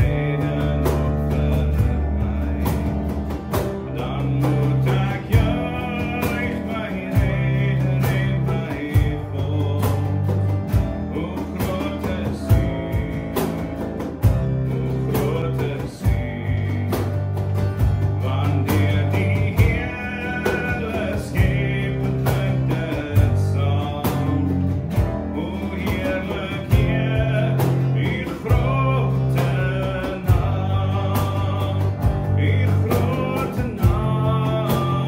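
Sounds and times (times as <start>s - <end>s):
worship song with band: 0.0s - 35.0s.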